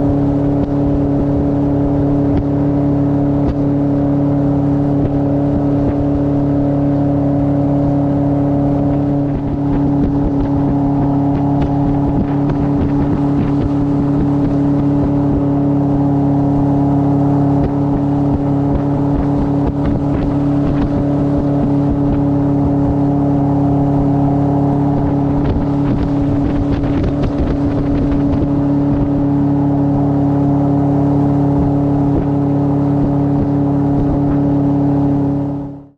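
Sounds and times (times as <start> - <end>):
outboard jet motor running: 0.0 - 35.9.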